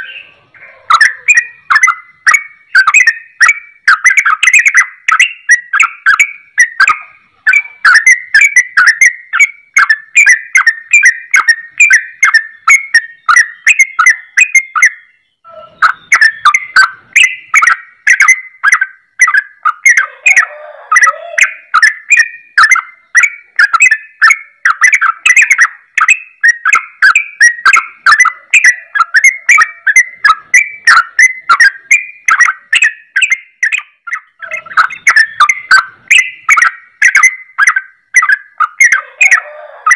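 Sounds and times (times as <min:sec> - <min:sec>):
bulbul singing rapid notes: 0:00.0 - 0:39.9.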